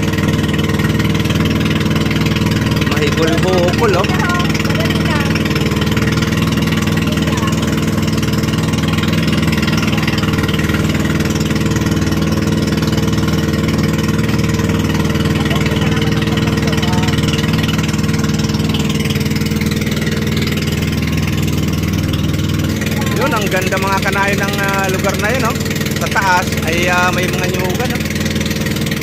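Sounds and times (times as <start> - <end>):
boat engine running: 0.0 - 29.0
water rushing past hull: 0.0 - 29.0.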